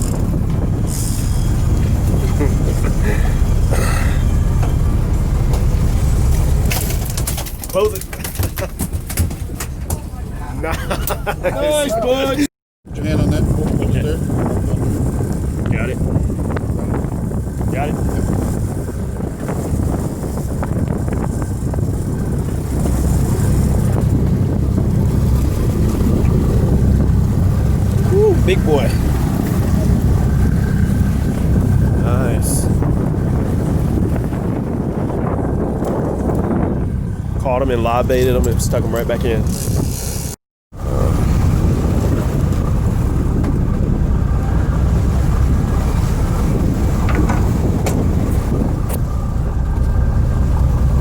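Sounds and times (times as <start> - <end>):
boat engine rumble: 0.0 - 51.0
wind buffeting microphone: 0.0 - 51.0.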